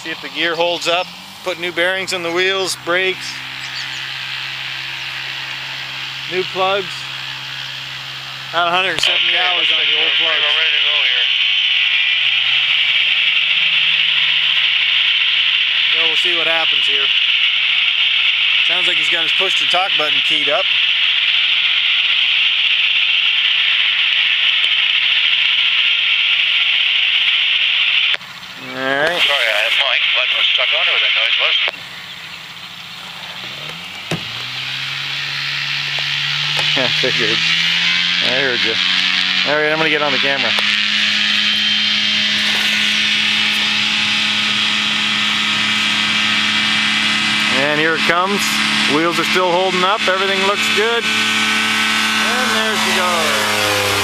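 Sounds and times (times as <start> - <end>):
radio hiss: 0.0 - 32.1, 35.0 - 54.0
plane engine droning: 0.0 - 54.0.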